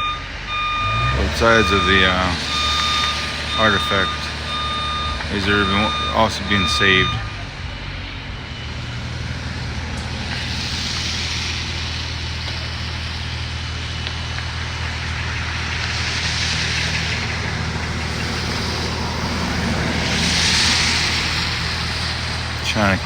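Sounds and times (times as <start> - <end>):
heavy machine engine humming: 0.0 - 23.0
noisy hiss: 0.0 - 23.0.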